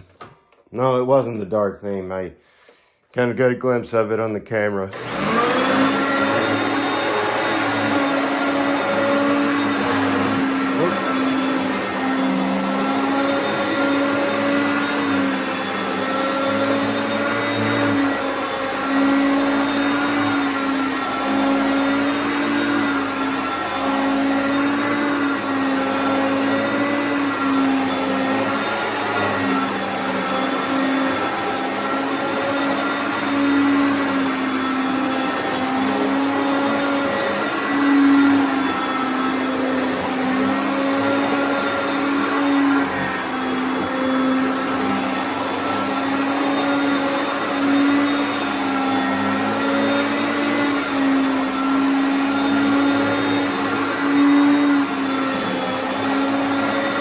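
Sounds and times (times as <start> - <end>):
vacuum cleaner motor whine: 4.9 - 57.0.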